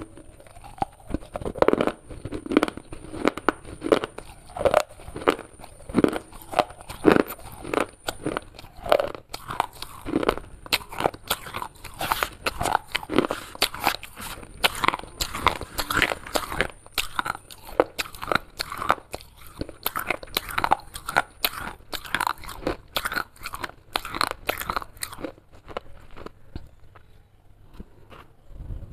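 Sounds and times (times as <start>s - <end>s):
chewing crunchy clay: 0.0s - 27.2s.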